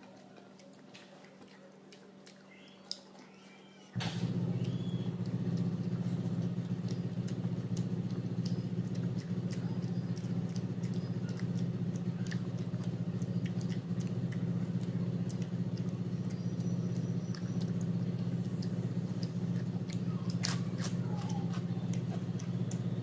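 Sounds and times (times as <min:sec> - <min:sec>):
person chewing: 0:00.0 - 0:03.6, 0:04.6 - 0:23.0
low steady hum: 0:00.0 - 0:23.0
mouth clicks: 0:04.0 - 0:23.0.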